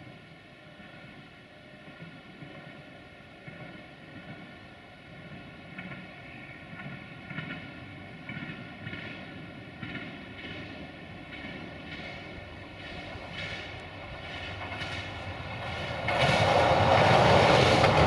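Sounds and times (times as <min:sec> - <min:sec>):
diesel railcar engine drone: 0:00.0 - 0:18.0.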